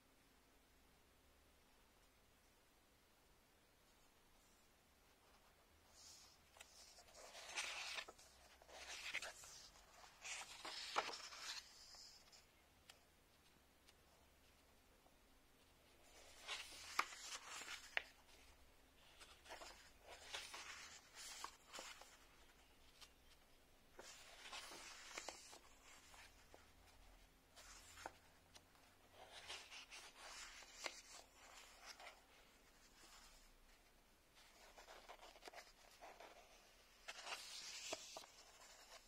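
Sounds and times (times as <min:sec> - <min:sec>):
book pages rustling: 0:05.1 - 0:14.7, 0:15.6 - 0:39.0.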